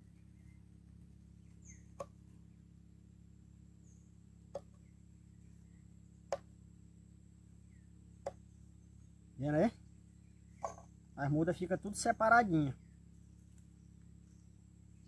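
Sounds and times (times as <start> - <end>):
faint bird chirps: 0.0 - 2.8, 3.7 - 6.5, 7.4 - 15.0.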